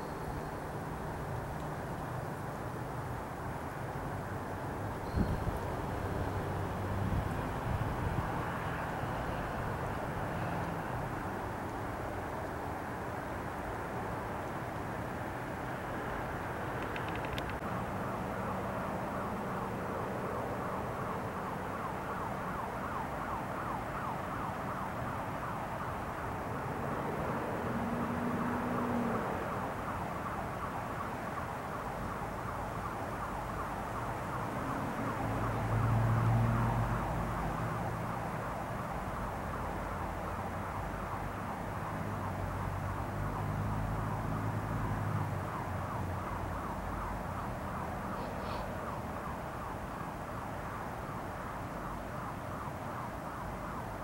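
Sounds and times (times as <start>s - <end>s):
distant traffic hum: 0.0s - 54.0s
passing vehicle engines: 0.0s - 54.0s.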